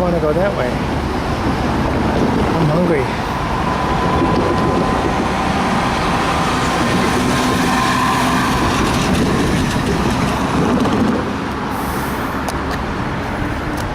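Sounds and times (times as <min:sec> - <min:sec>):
road and traffic noise: 0:00.0 - 0:13.9
wind on microphone: 0:00.6 - 0:13.9.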